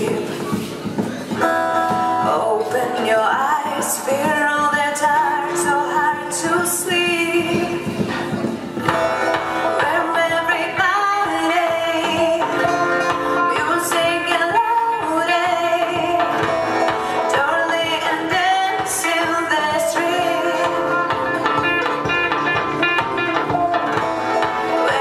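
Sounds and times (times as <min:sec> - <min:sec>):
guitar accompaniment: 0:00.0 - 0:25.0
person singing: 0:00.0 - 0:25.0.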